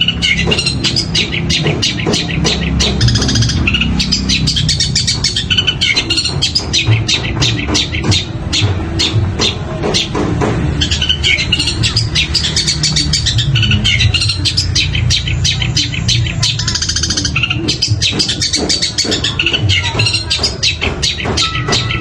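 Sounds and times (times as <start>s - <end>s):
shrike singing: 0.0s - 22.0s.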